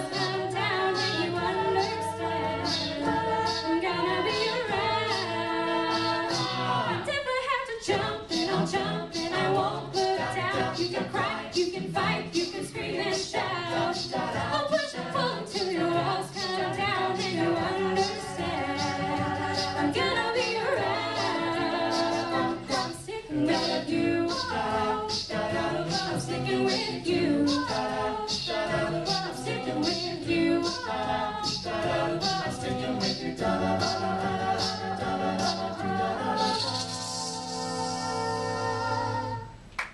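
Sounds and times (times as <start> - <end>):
group singing a cappella: 0.0 - 39.6.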